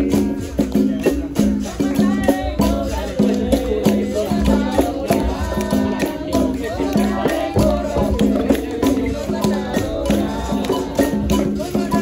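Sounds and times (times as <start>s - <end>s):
berimbau rhythm: 0.0s - 12.0s
shaker rattles: 0.0s - 12.0s
voices singing: 0.0s - 12.0s.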